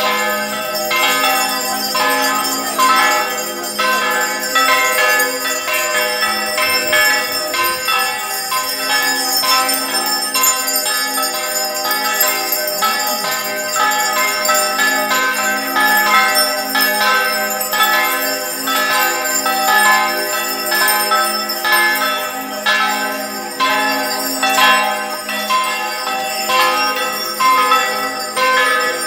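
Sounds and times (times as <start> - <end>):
bells ringing: 0.0 - 29.0.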